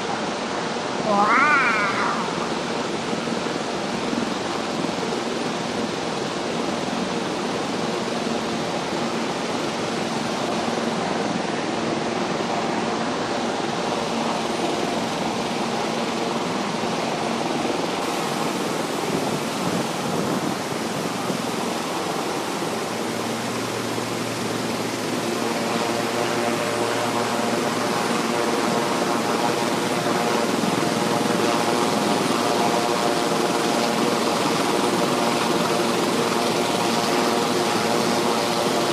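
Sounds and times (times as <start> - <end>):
waterfall rushing: 0.0 - 38.9
drone propeller whine: 0.7 - 6.0, 6.7 - 38.9.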